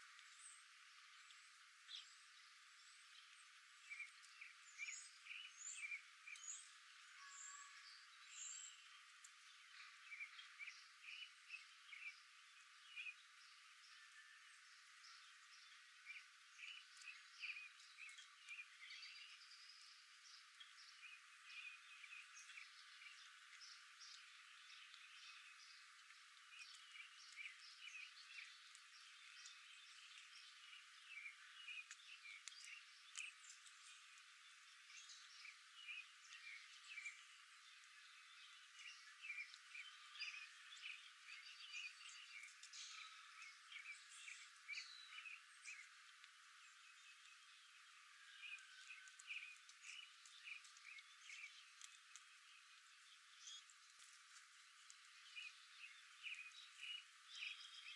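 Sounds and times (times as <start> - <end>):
chirping calls of frogs or birds: 0.0 - 57.9.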